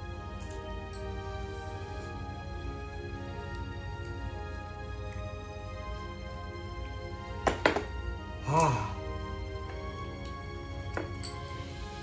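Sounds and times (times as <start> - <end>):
music of held notes: 0.0 - 12.0.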